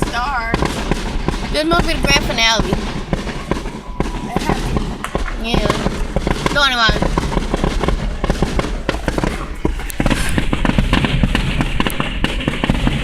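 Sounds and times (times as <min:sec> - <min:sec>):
firework explosions: 0:00.0 - 0:13.0.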